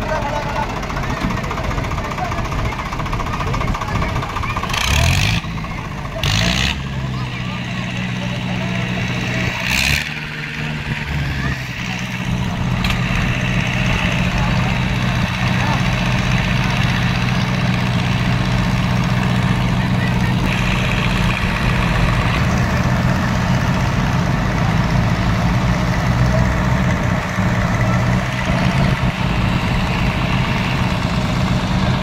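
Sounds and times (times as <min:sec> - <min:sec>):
crowd voices: 0:00.0 - 0:32.0
diesel tractor engines running: 0:00.0 - 0:32.0.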